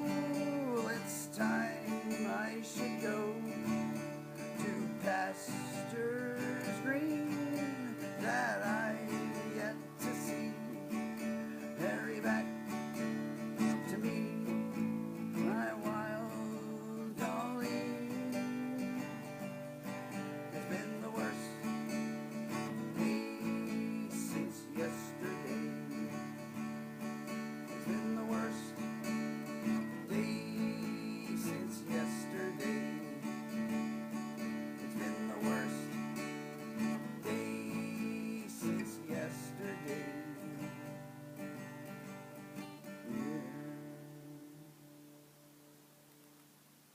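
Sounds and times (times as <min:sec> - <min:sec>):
acoustic guitar strumming chords: 0:00.0 - 0:46.9.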